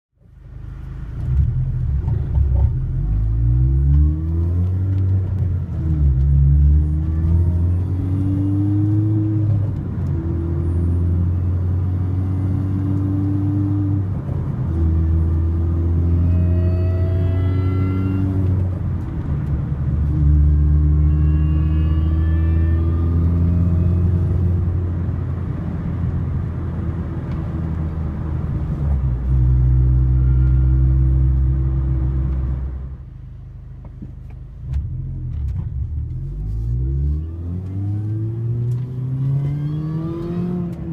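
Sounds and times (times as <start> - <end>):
car engine droning: 0.2 - 40.9.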